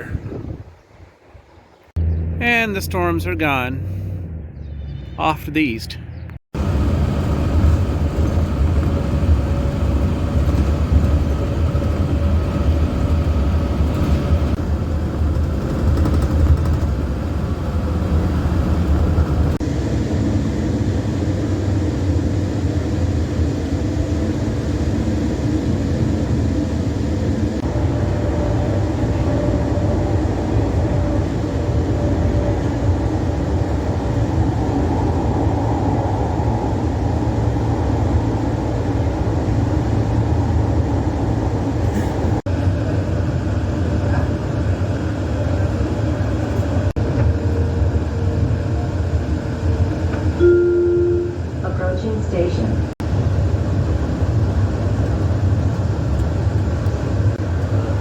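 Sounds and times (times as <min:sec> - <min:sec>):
train running from inside: 0:06.6 - 0:58.0.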